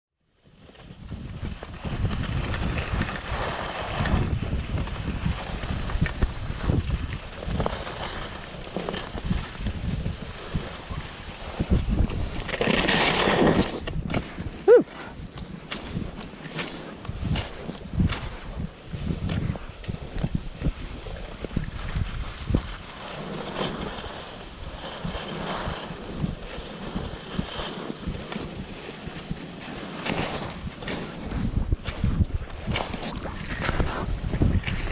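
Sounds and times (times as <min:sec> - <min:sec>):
skis scraping on packed snow: 0:00.3 - 0:34.9
wind buffeting microphone: 0:00.7 - 0:34.9.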